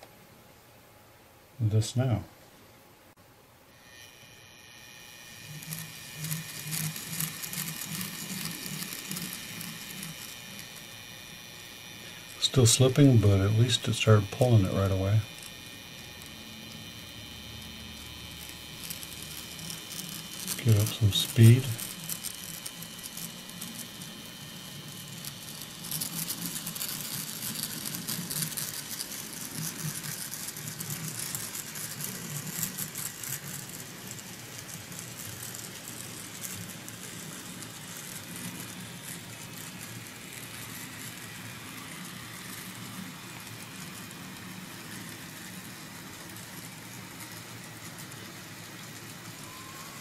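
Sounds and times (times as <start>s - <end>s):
model train wheels clicking on track: 3.8s - 50.0s.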